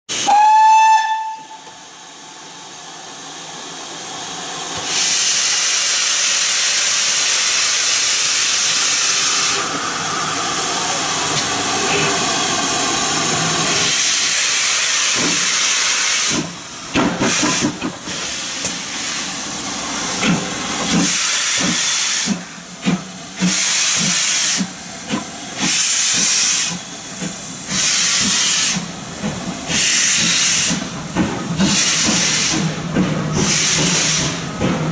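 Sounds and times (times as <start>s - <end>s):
steam locomotive hissing: 0.1s - 34.9s.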